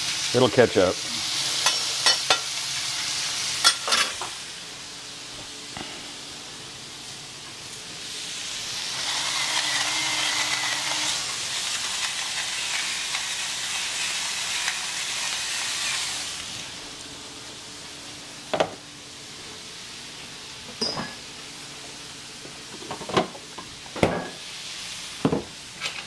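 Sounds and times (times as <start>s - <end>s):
potatoes sizzling on a grill: 0.0s - 20.3s, 23.6s - 26.0s.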